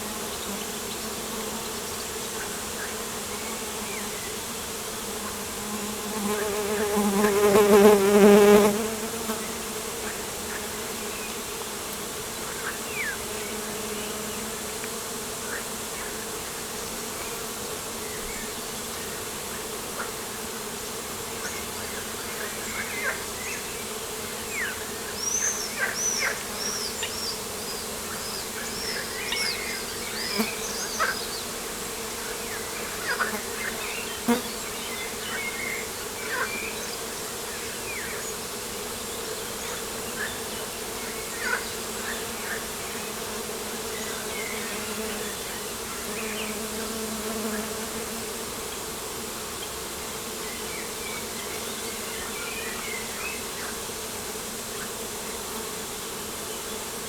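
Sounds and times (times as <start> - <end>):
insects buzzing: 0.0 - 57.0.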